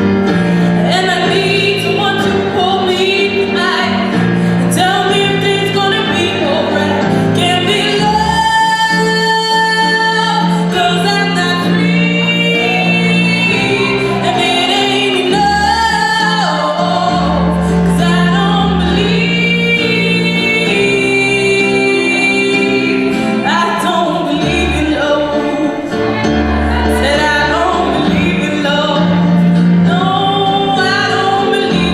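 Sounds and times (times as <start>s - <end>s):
sustained instrumental accompaniment: 0.0s - 31.9s
woman singing slow song: 0.6s - 31.9s.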